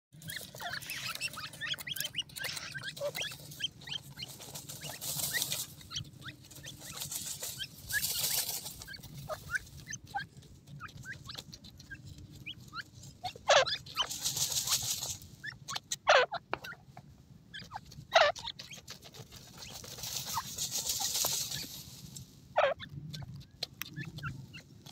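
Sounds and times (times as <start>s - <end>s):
chicks peeping and chirping: 0.2s - 24.9s.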